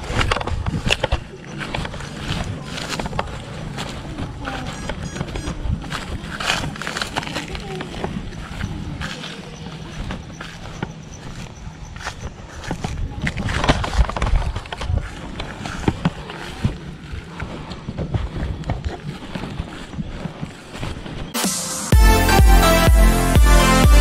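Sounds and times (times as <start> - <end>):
grass rustling: 0.0 - 22.0
footsteps through long grass: 0.1 - 22.0.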